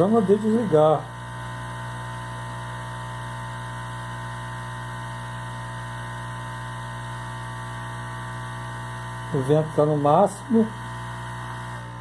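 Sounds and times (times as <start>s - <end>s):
air pump humming: 0.0s - 12.0s.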